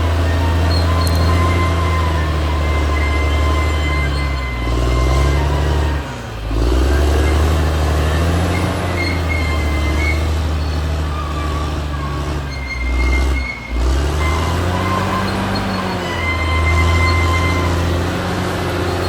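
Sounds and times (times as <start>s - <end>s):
bulldozer diesel engine under load: 0.0s - 19.0s
steel tracks squealing: 0.0s - 19.0s.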